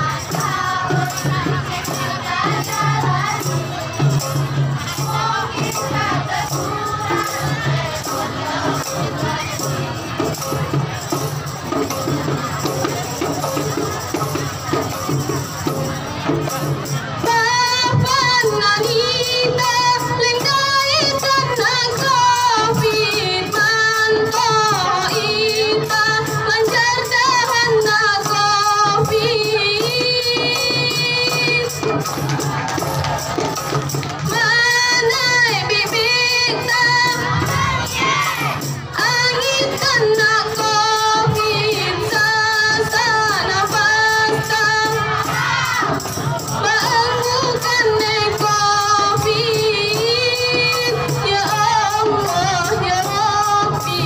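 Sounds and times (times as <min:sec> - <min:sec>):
frame drums beating: 0:00.0 - 0:54.0
women singing in unison: 0:00.0 - 0:54.0.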